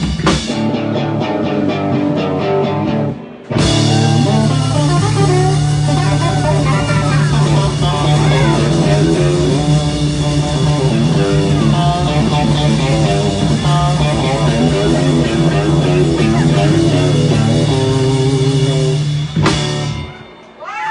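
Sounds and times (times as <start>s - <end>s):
electric guitar with string bends: 0.0s - 20.6s.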